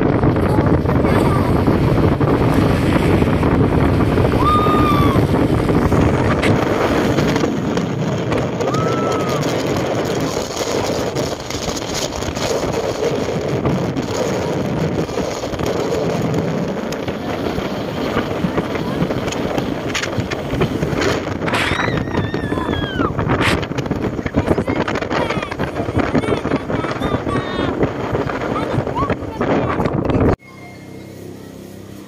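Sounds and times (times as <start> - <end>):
wind buffeting microphone: 0.0 - 30.4
vehicle road noise: 0.0 - 32.0.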